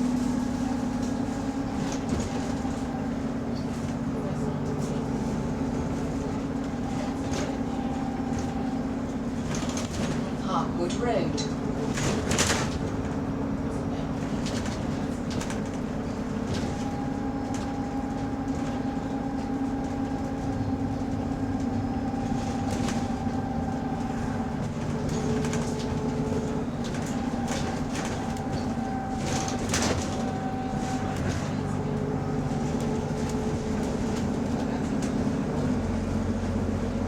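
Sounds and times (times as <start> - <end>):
bus engine droning: 0.0 - 37.0.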